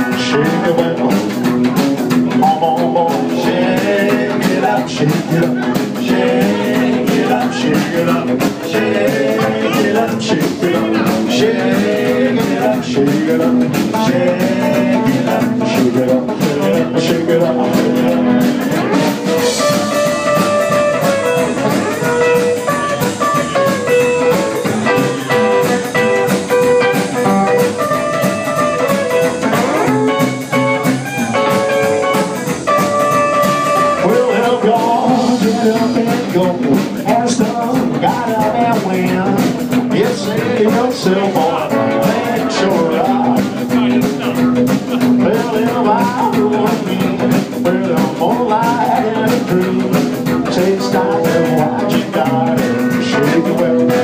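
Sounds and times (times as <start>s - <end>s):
electric guitar lead line: 0.0s - 54.0s
small band playing live: 0.0s - 54.0s.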